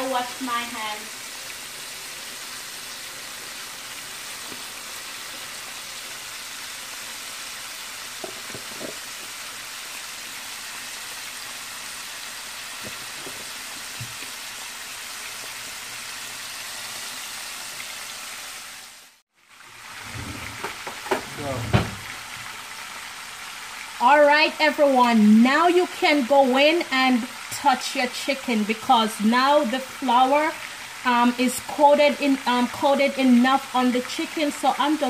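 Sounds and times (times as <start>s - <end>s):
deep-frying sizzle: 0.0s - 35.0s.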